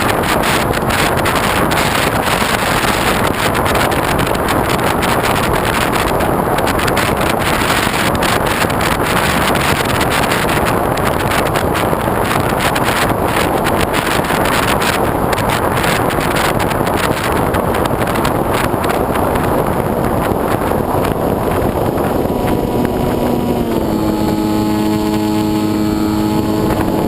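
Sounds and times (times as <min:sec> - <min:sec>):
wind rush on microphone: 0:00.0 - 0:27.0.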